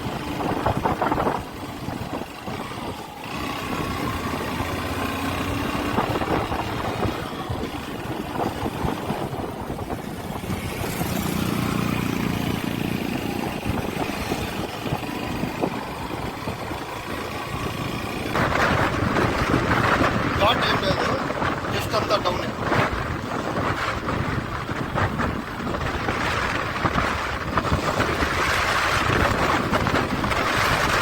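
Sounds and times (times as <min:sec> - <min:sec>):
motorcycle engine running: 0:00.0 - 0:31.0
road noise: 0:00.0 - 0:31.0
wind noise on microphone: 0:00.0 - 0:31.0.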